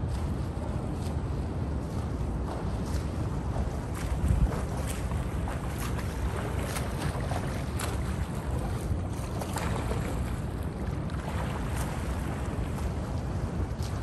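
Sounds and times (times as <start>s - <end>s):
wind rumble on microphone: 0.0s - 14.0s
water splashing from swimming: 0.1s - 14.0s.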